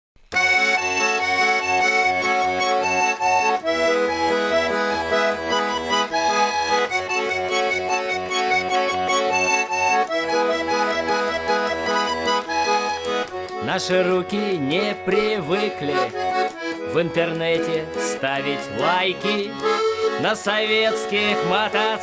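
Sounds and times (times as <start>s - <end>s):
accordion playing chords: 0.3s - 22.0s.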